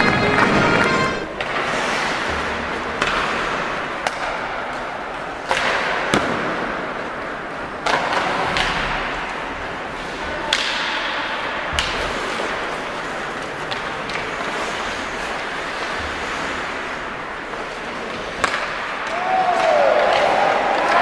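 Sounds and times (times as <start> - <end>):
hockey sticks clacking puck: 0.0 - 21.0
skates scraping ice: 0.0 - 21.0.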